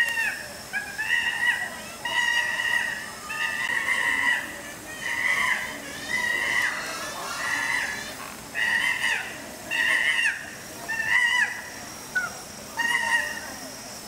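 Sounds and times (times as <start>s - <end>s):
chimpanzee screaming: 0.0s - 13.6s.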